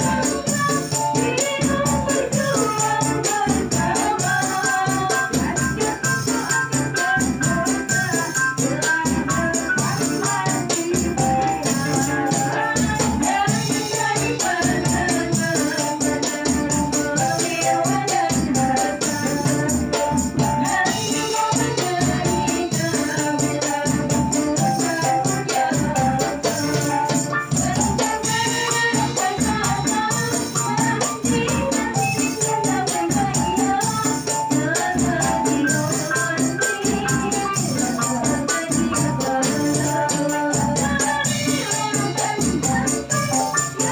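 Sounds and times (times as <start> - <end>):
jingling frame drums: 0.0 - 43.9
keyboard accompaniment: 0.0 - 43.9
women singing amplified: 0.0 - 43.9.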